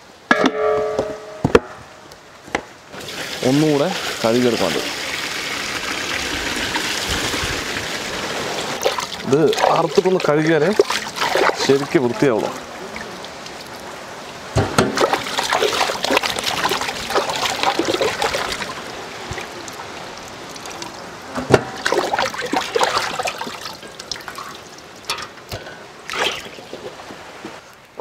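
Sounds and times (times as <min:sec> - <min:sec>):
water splashing and trickling: 0:02.8 - 0:28.0.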